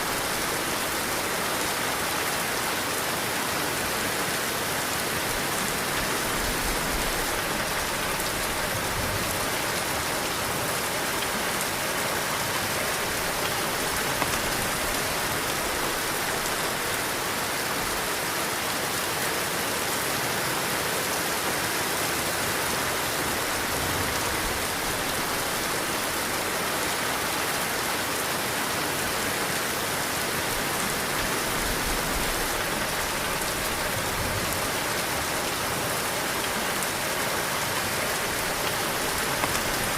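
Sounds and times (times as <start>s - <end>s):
heavy rain pouring: 0.0s - 39.9s
low wind: 0.0s - 39.9s.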